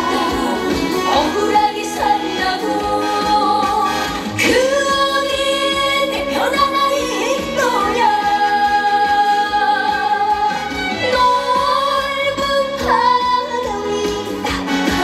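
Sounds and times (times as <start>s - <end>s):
backing music: 0.0s - 15.0s
woman singing into a microphone: 0.0s - 15.0s.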